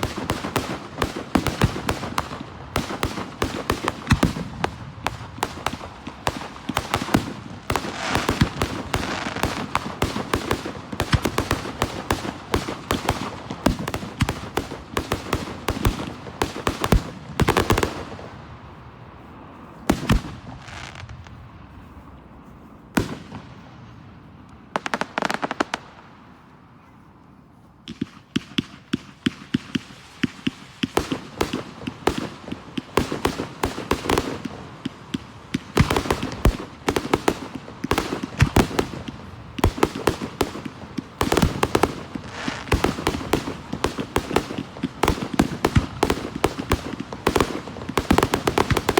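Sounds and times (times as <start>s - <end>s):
fireworks bangs and crackling: 0.0s - 18.8s, 19.8s - 21.8s, 22.9s - 24.0s, 24.6s - 26.2s, 27.8s - 48.9s.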